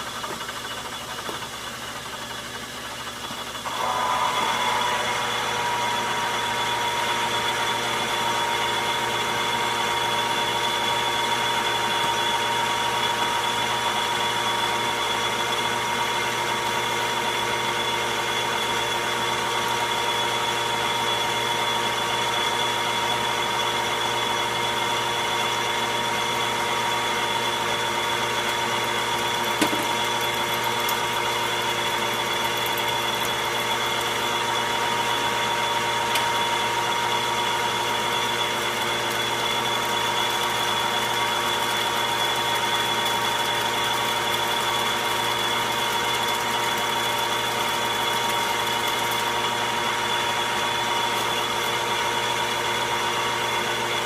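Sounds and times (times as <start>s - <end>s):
metal lathe running: 0.0s - 54.0s.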